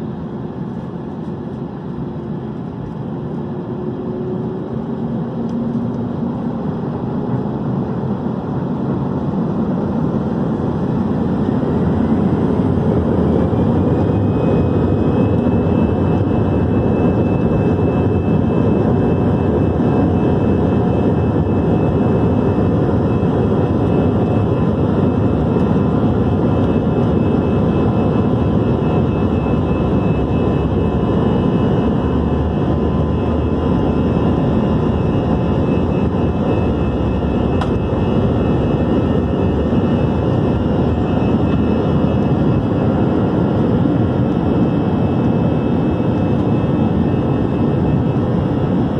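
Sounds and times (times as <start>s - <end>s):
steady loud roar with rumble: 0.0s - 48.9s
jet engines spooling up: 0.1s - 48.9s.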